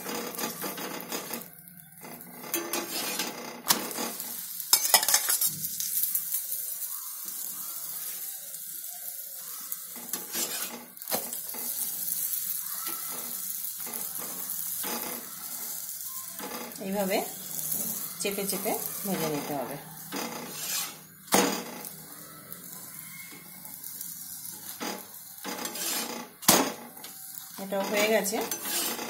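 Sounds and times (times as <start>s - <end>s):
metal spatula scraping a pan: 0.0s - 8.2s, 9.8s - 29.0s
oil sizzling in a pan: 0.0s - 29.0s.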